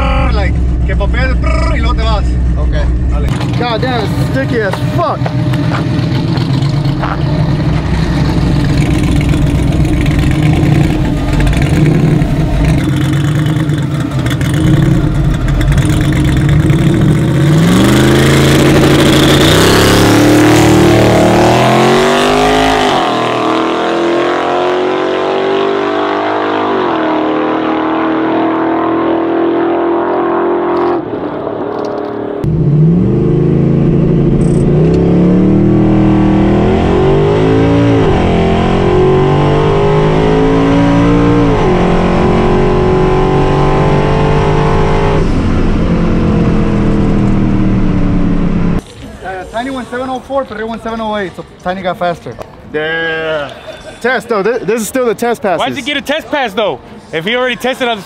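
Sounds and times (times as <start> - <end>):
truck engine rumbling and accelerating: 0.0 - 52.7.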